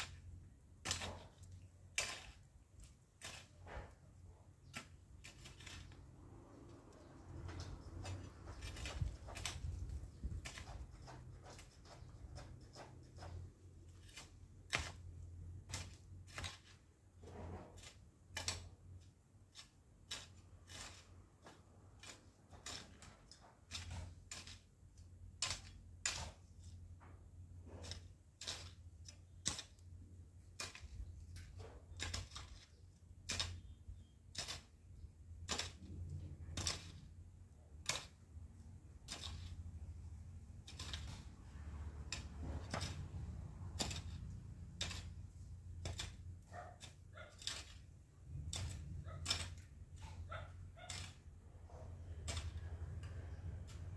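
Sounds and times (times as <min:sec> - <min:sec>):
garden tool clicking in soil: 0:00.0 - 0:17.0, 0:17.6 - 0:53.9.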